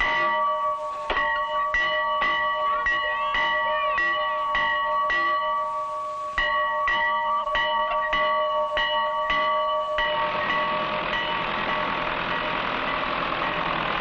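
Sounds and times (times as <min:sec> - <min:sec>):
bell ringing: 0:00.0 - 0:13.8.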